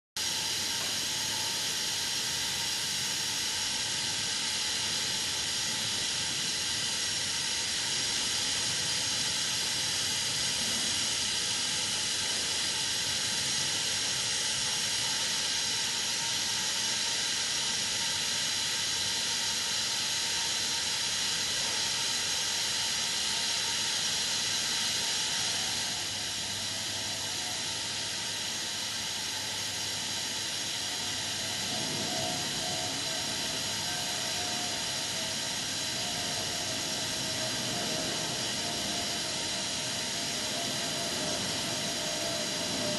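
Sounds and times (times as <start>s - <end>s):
steam hissing from locomotive: 0.2s - 42.9s.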